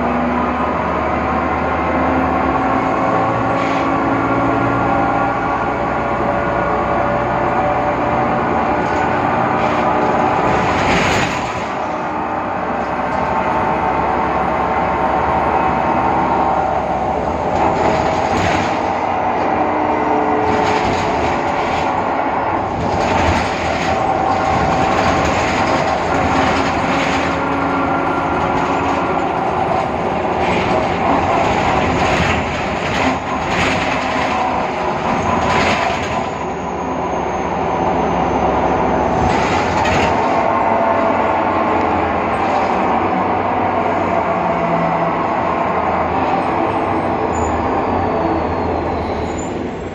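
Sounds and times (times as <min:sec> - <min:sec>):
bus differential whine: 0:00.0 - 0:49.9
bus running noise: 0:00.0 - 0:49.9.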